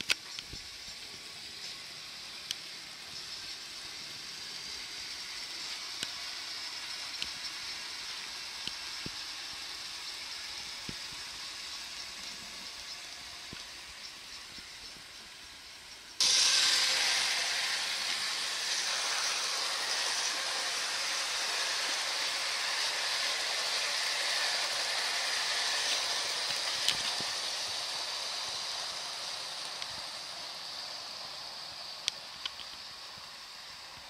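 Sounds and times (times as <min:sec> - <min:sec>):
model train wheels rolling on rails: 0:00.0 - 0:34.0.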